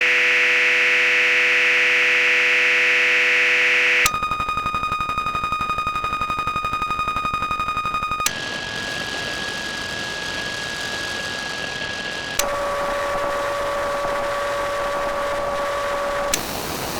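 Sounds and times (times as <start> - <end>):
electronic static hiss with whine: 0.0 - 16.9.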